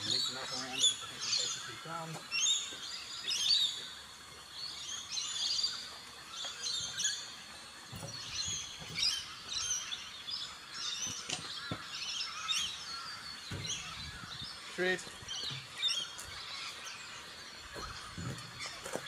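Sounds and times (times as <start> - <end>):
wild birds chirping: 0.0 - 19.0.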